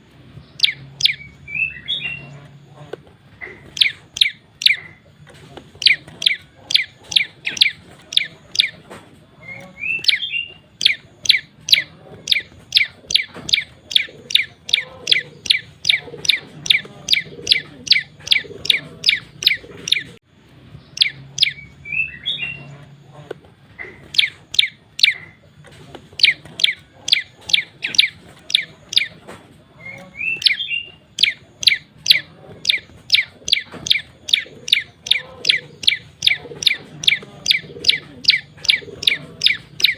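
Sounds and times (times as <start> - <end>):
bird twittering: 0.4 - 5.2, 5.8 - 20.2, 20.8 - 39.9.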